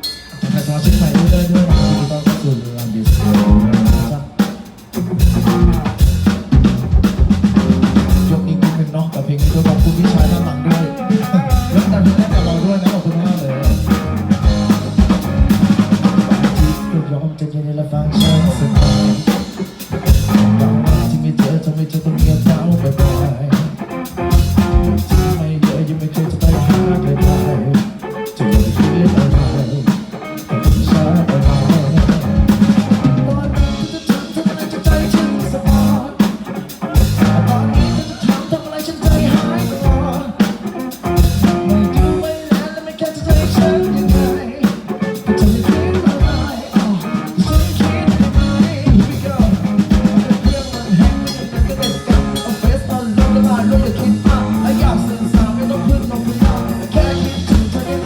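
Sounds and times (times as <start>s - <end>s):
drum kit beat with snare rimshots: 0.0s - 17.0s, 18.2s - 58.0s
live band playing pop-rock: 0.0s - 17.1s, 18.1s - 58.0s.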